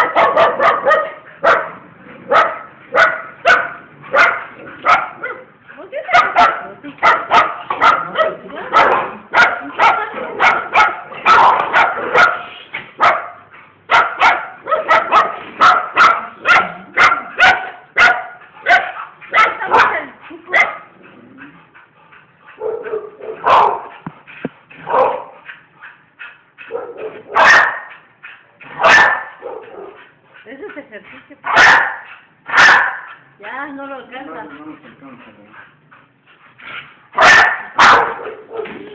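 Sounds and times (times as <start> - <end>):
dogs barking: 0.0 - 21.0, 22.5 - 24.1, 24.7 - 26.0, 26.6 - 33.4, 37.1 - 38.9.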